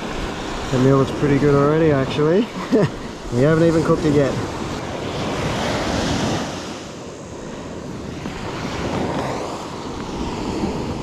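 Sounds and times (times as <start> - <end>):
ocean surf washing on beach: 0.0 - 11.0
wind: 0.0 - 11.0.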